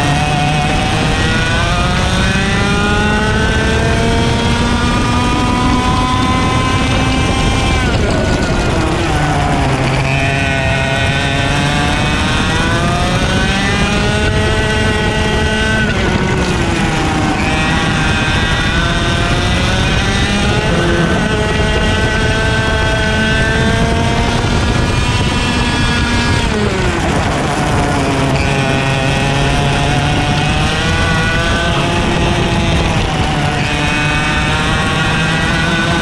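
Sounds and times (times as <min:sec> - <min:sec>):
kart engine at full throttle: 0:00.0 - 0:36.0.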